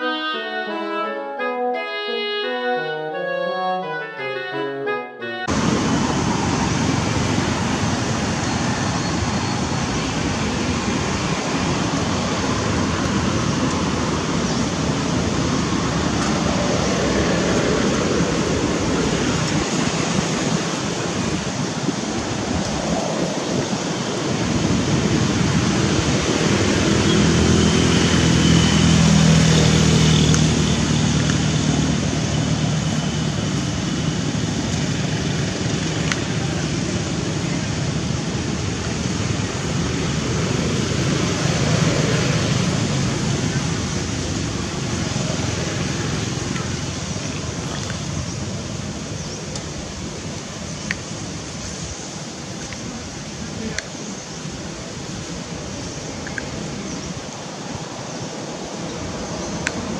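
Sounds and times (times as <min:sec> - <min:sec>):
rushing outdoor background noise: 0:00.0 - 0:59.9.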